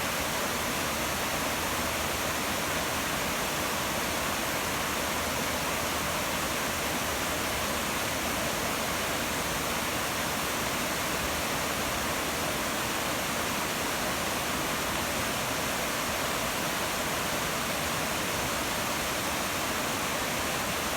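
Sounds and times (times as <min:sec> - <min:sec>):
creek rushing over waterfalls: 0:00.0 - 0:20.9.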